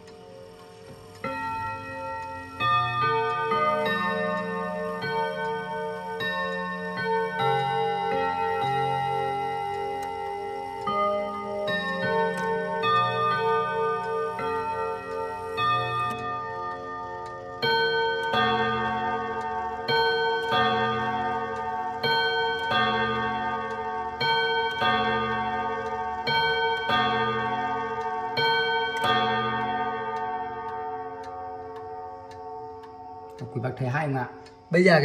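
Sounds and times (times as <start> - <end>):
clock chime melody on gongs: 0.0 - 35.0
clock ticking: 0.0 - 35.0.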